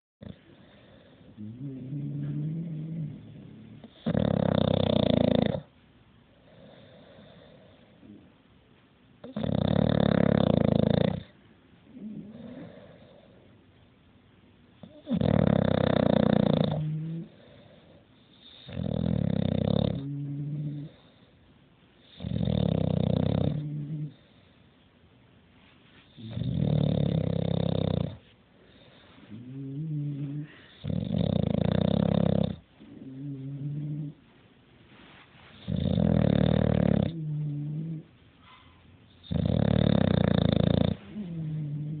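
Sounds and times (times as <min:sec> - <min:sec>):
dog snoring: 0:00.2 - 0:05.7, 0:06.4 - 0:08.3, 0:09.2 - 0:13.5, 0:14.8 - 0:21.4, 0:22.0 - 0:24.6, 0:26.1 - 0:34.2, 0:35.6 - 0:38.1, 0:39.2 - 0:42.0
soft humming breath: 0:00.2 - 0:08.5, 0:10.2 - 0:14.1, 0:14.8 - 0:42.0.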